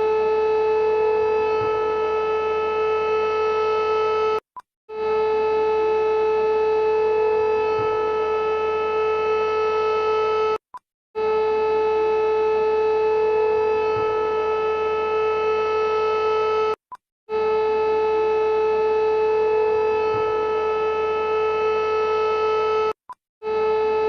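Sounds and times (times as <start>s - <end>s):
alarm steady harsh tone: 0.0s - 24.0s.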